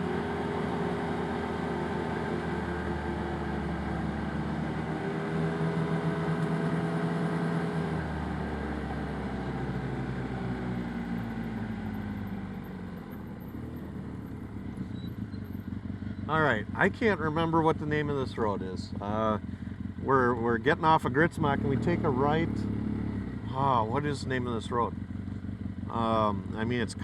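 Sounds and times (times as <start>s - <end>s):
utility vehicle engine running: 0.0s - 27.0s.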